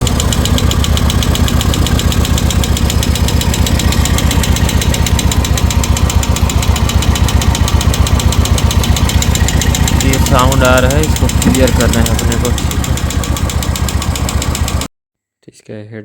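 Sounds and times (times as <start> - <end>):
engine tappet ticking: 0.0 - 14.9
motorcycle engine idling: 0.0 - 14.9.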